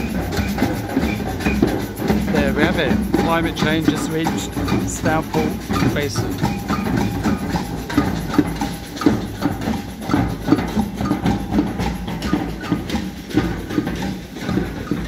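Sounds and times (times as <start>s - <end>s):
samba percussion playing: 0.0s - 15.0s
sharp clicking strokes: 0.0s - 15.0s.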